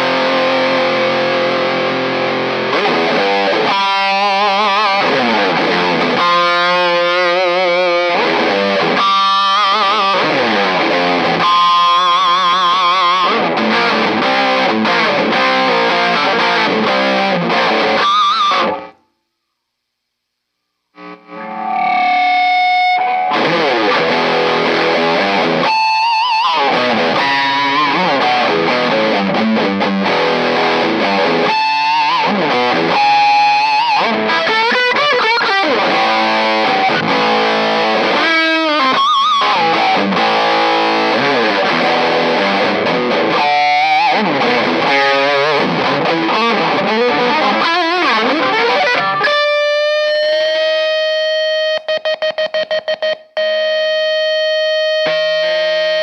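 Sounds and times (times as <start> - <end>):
distorted electric guitar lead: 0.0 - 19.3, 20.3 - 56.0.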